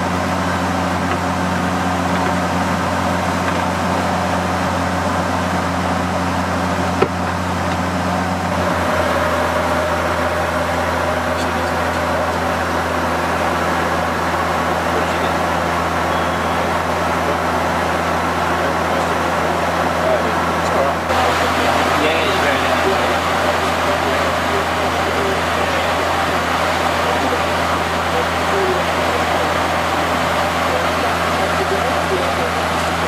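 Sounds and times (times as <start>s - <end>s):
turboprop cabin drone: 0.0s - 33.0s.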